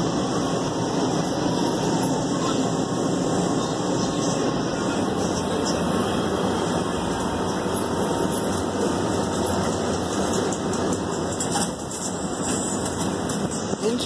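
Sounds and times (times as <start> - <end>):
subway car wheels on rails: 0.0 - 14.0.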